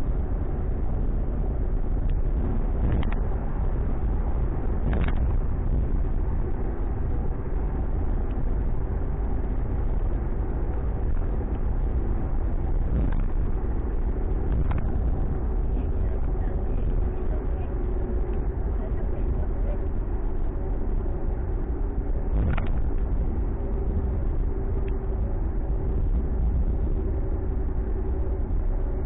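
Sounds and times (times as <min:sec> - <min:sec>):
car engine rumble: 0:00.0 - 0:29.0
road noise: 0:00.0 - 0:29.0.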